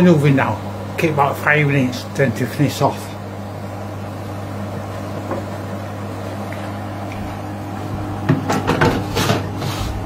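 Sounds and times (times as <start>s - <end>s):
kitchen fan motor hum: 0.0s - 10.0s.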